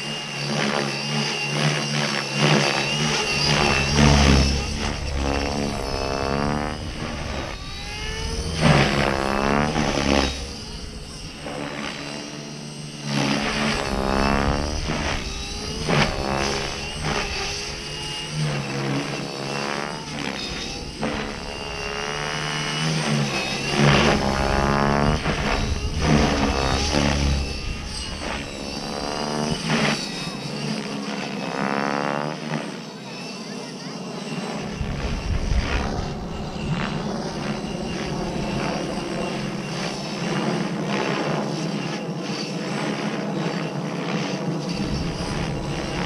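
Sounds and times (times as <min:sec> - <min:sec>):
rc helicopter rotor whine: 0:00.0 - 0:46.0.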